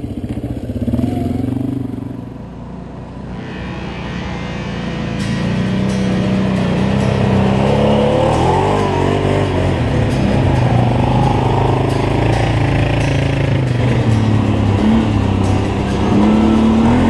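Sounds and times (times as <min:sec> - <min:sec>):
atv engine running: 0:00.0 - 0:03.4, 0:04.8 - 0:17.0.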